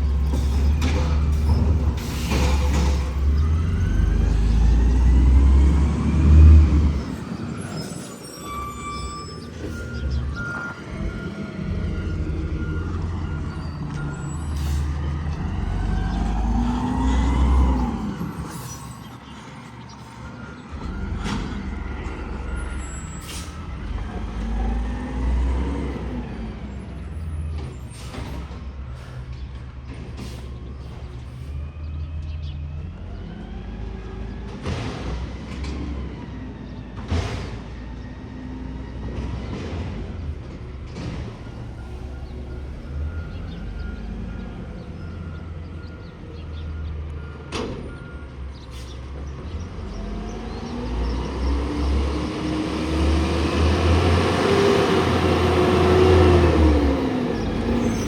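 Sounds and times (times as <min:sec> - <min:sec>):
garbage truck engine revving: 0:00.0 - 0:18.7, 0:20.7 - 0:28.6, 0:33.2 - 0:58.0.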